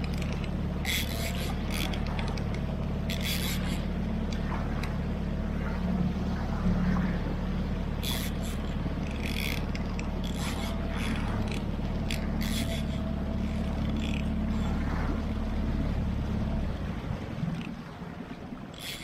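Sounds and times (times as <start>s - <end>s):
boat hull wash: 0.0s - 19.0s
outboard motor running: 0.0s - 19.0s.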